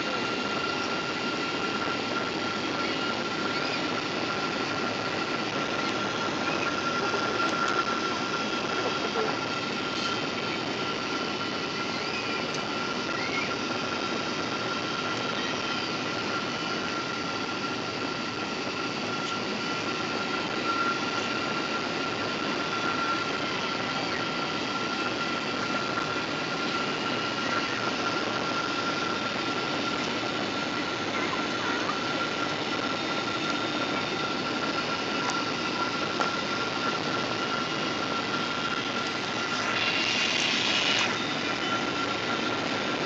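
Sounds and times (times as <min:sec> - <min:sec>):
high-pitched engine whine: 0:00.0 - 0:43.0
jet engine and airflow in cabin: 0:00.0 - 0:43.0.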